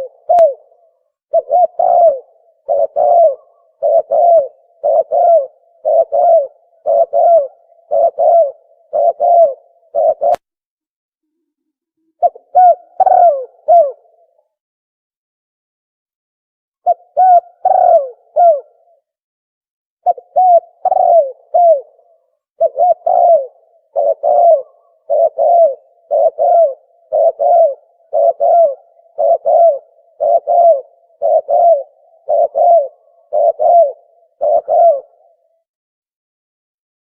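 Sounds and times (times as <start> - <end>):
dove cooing call: 0.0 - 10.5, 12.0 - 14.6, 16.8 - 19.1, 20.0 - 35.7.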